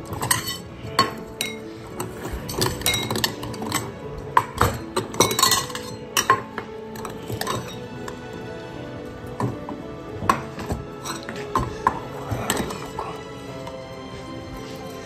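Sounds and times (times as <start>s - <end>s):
metal bowls clinking and clattering: 0.0s - 8.3s, 9.2s - 13.7s.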